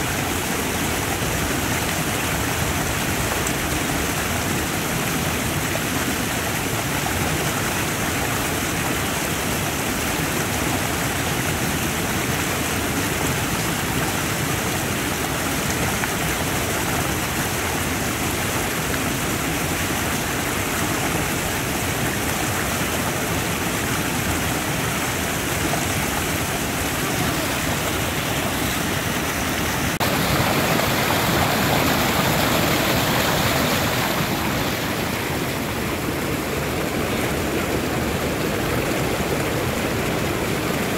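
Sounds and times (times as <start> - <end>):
creek rushing over rapids: 0.0 - 40.9.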